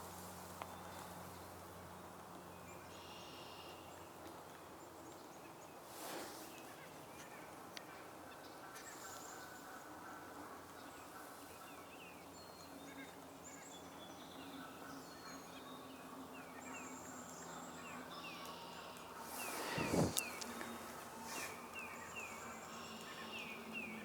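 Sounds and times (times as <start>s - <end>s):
small birds chirping: 2.6s - 24.0s.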